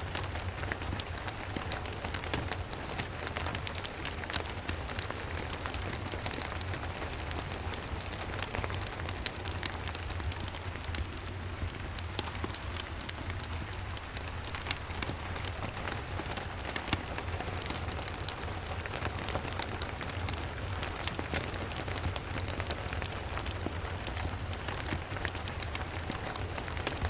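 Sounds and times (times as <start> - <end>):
rain drops clicking: 0.0 - 27.0
wood fire crackling: 0.0 - 27.0.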